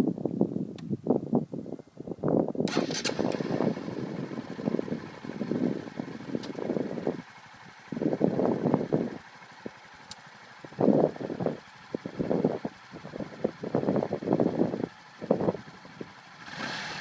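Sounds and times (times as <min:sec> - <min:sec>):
motorcycle engine surging: 0:02.6 - 0:17.0.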